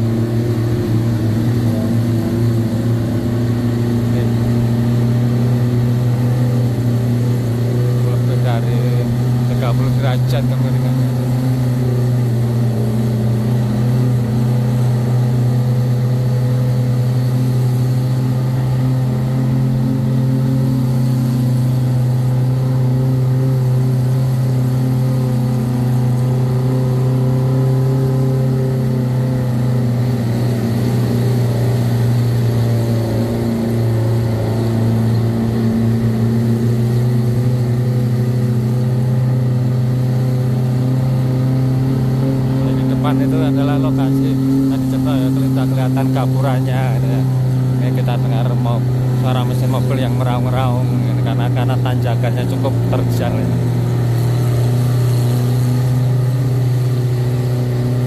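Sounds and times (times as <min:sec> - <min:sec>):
engine roaring under load: 0:00.0 - 0:58.0.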